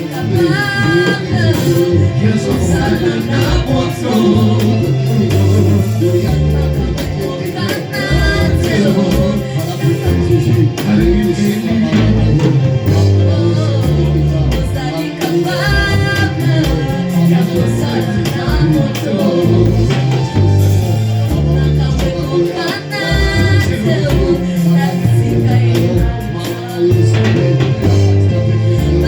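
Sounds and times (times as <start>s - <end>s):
moving bass line: 0.0s - 29.0s
steady drum beat: 0.0s - 29.0s
voices singing: 0.0s - 29.0s.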